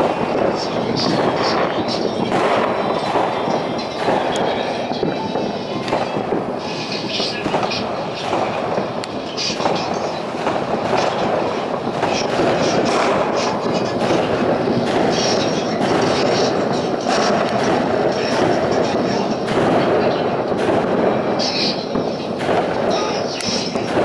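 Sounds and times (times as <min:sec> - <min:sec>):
fireworks and firecrackers bangs: 0:00.0 - 0:24.0.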